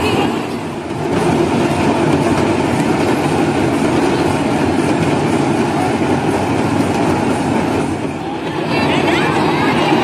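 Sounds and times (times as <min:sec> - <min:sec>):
crowd din: 0:00.0 - 0:10.0.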